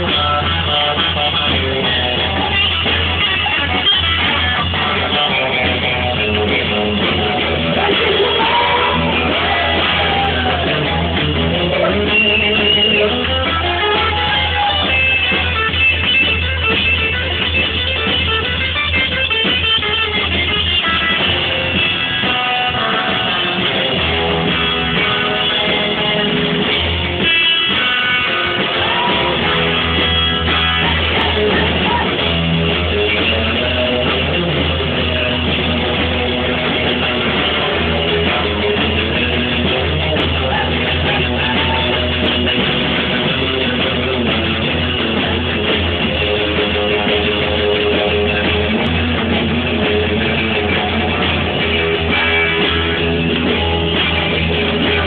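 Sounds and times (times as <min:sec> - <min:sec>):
bass line: 0:00.0 - 0:55.0
electric guitar: 0:00.0 - 0:55.0
rock and roll band playing: 0:00.0 - 0:55.0.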